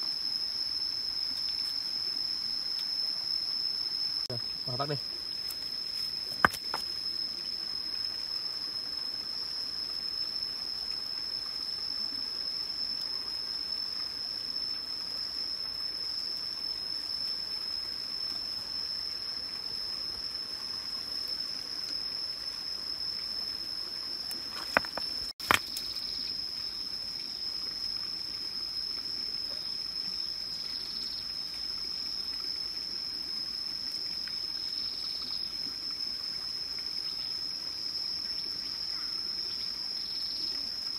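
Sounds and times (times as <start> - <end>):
faint water trickle: 0.0 - 24.6, 25.8 - 40.9.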